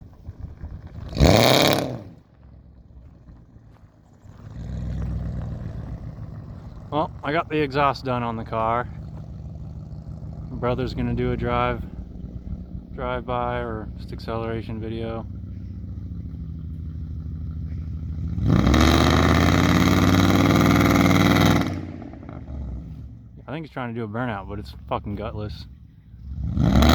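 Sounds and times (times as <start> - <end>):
car engine revving: 0.0 - 26.9
low engine exhaust rumble: 0.0 - 26.9.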